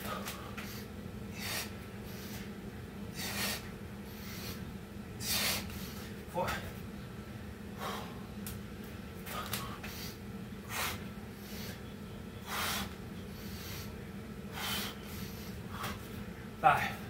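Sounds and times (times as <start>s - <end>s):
person breathing hard: 0.0s - 6.2s, 7.7s - 8.3s, 9.2s - 16.1s
steady low hum: 0.0s - 17.0s.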